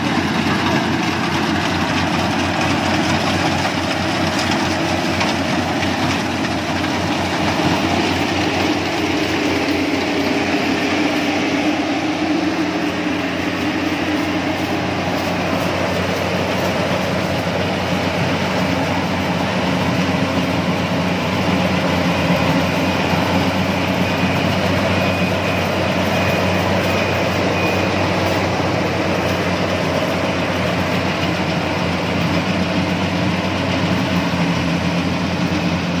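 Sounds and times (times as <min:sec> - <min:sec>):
combine harvester droning: 0:00.0 - 0:36.0.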